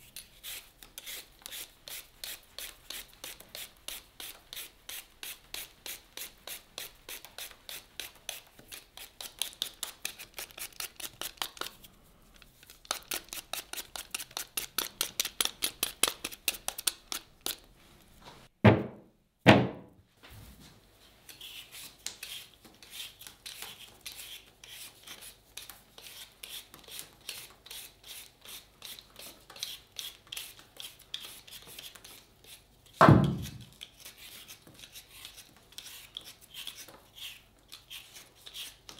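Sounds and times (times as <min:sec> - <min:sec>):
peeler scraping potato skin: 0:00.0 - 0:11.9, 0:12.5 - 0:17.7, 0:21.3 - 0:38.9.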